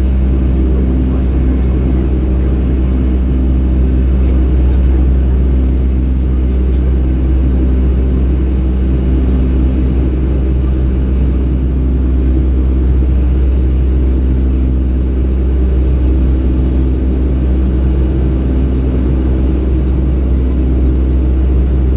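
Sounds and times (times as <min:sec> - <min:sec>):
jet engine drone in cabin: 0:00.0 - 0:21.9.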